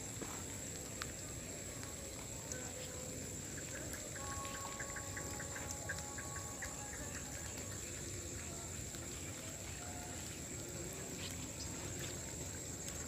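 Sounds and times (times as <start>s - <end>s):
faint ticks: 0.0s - 13.0s
high-pitched insect drone: 0.0s - 13.0s.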